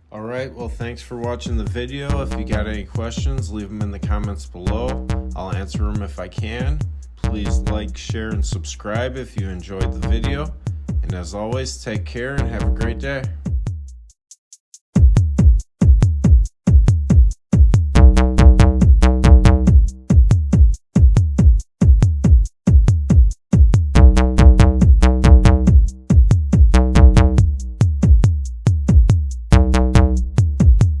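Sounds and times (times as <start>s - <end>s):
electronic music with drum-machine beat: 0.6s - 31.0s.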